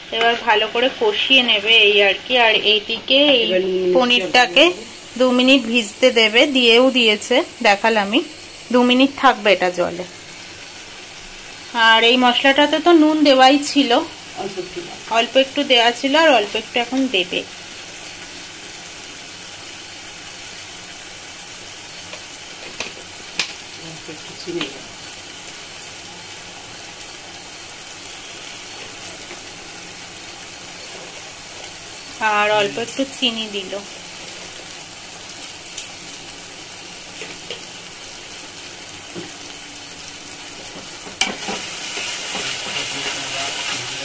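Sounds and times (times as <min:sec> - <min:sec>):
paste sizzling in oil: 0:00.0 - 0:44.0.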